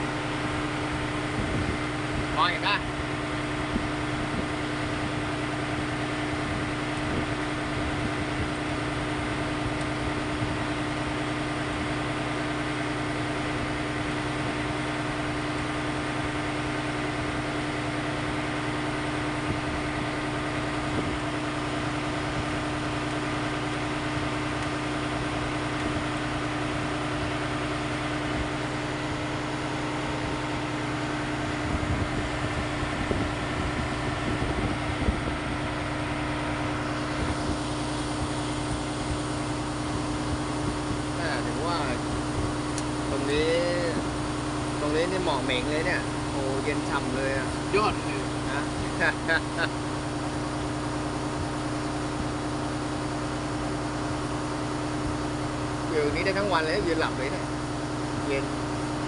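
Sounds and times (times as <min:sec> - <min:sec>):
ship machinery droning: 0:00.0 - 0:59.0.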